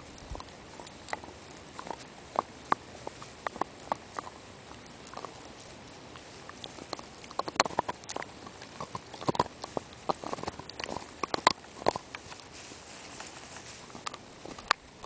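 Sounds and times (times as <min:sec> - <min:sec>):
dog gnawing on a bone: 0:00.0 - 0:15.0.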